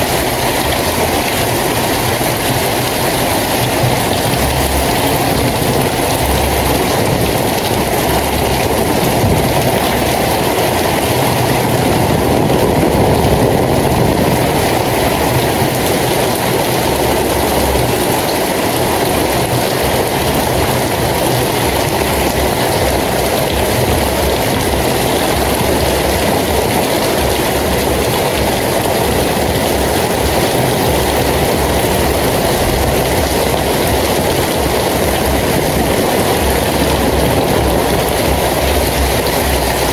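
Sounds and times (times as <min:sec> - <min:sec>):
heavy rain hiss: 0:00.0 - 0:39.9
low rumble: 0:00.0 - 0:39.9.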